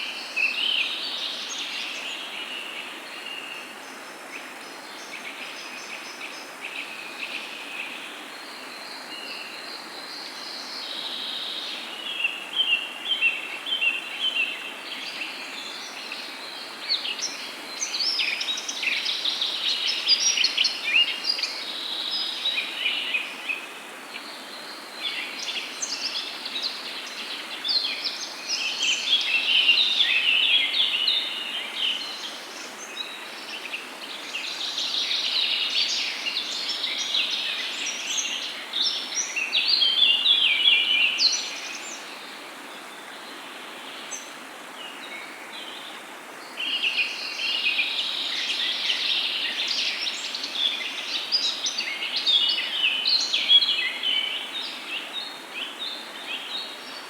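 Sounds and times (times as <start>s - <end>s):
background hiss: 0.0s - 57.0s
songbirds singing and chirping: 0.0s - 57.0s.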